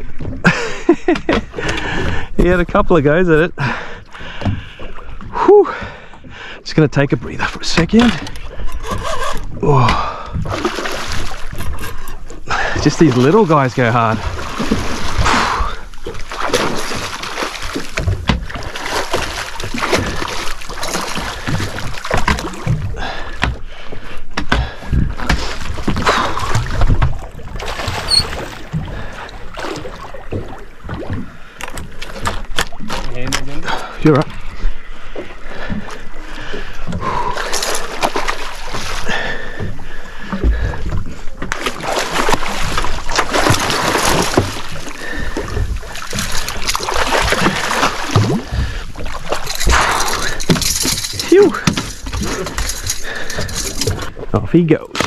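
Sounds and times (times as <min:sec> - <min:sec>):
water slapping against hull: 0:00.0 - 0:55.0
fish thrashing and splashing: 0:08.0 - 0:54.3.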